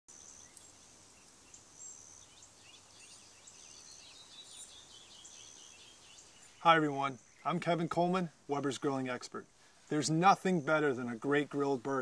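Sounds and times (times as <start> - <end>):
low hiss: 0.1 - 12.0
small birds chirping: 0.1 - 12.0.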